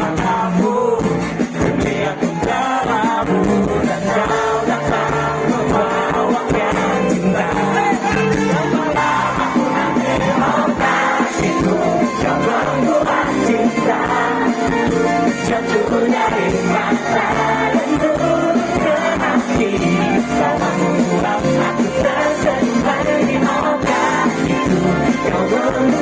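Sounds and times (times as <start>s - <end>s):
live pop band: 0.0s - 26.0s
people singing: 0.0s - 26.0s.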